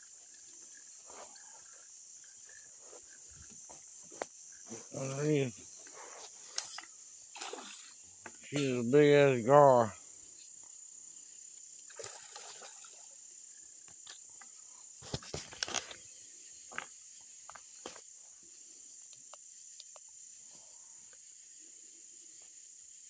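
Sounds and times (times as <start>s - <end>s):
night insects chirping: 0.0s - 23.0s.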